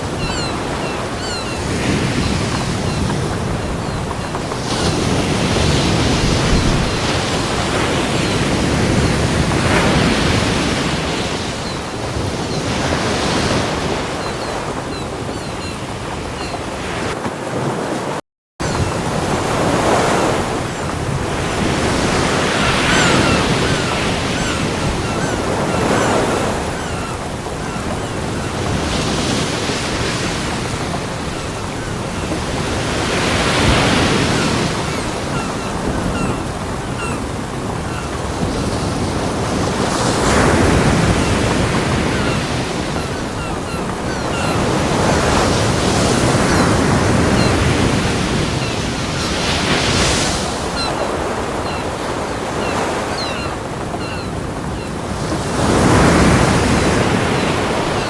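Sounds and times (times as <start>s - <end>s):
waves crashing on beach: 0.0s - 58.0s.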